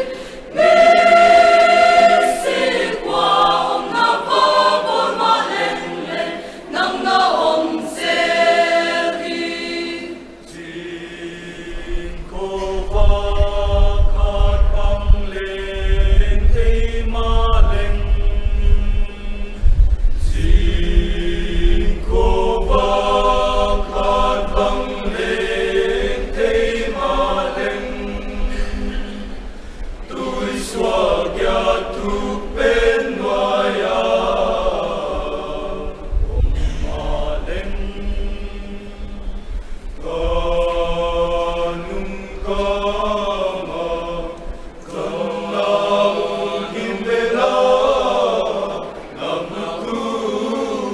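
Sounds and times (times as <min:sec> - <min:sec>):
mixed choir singing: 0:00.0 - 0:50.9.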